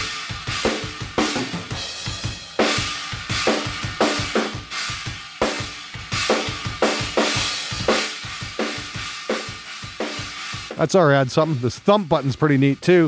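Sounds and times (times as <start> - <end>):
drum kit playing a beat: 0.0 - 13.0.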